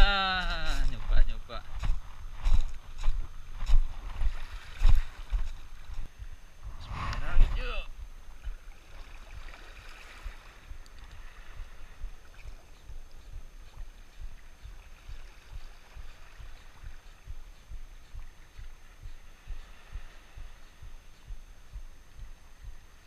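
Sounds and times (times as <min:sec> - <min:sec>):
soft water at shoreline: 0:00.0 - 0:23.0
wind rumbling on microphone: 0:00.0 - 0:23.0.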